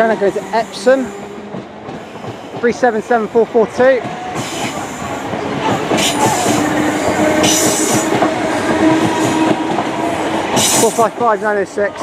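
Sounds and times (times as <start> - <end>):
train rail rumble: 0.0 - 12.0.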